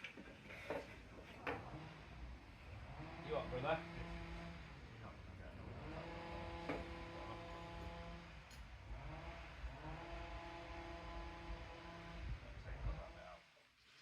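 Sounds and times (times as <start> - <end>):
chainsaw engine running: 1.6 - 13.1.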